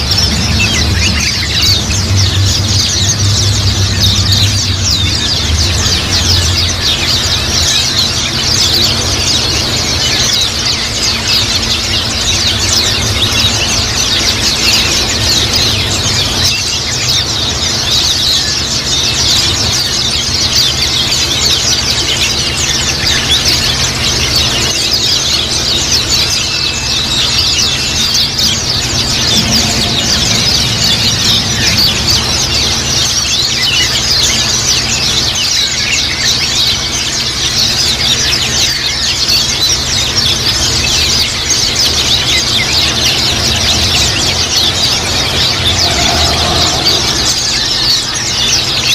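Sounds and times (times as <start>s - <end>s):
flock of birds twittering: 0.0s - 48.9s
steady low hum: 0.0s - 48.9s.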